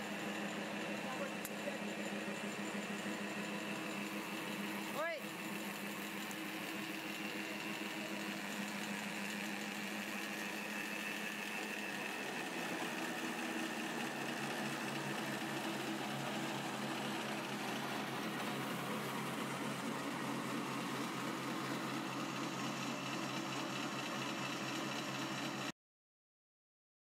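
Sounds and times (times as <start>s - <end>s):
machinery motor hum: 0.0s - 25.7s.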